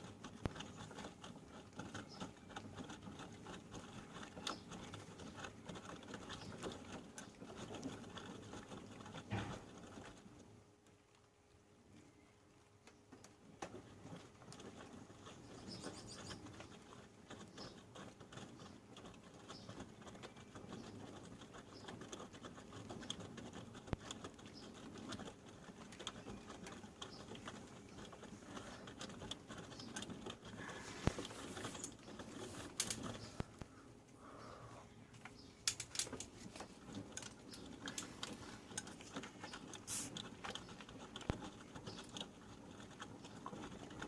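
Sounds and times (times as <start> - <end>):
faint motor hum: 0.0 - 44.0.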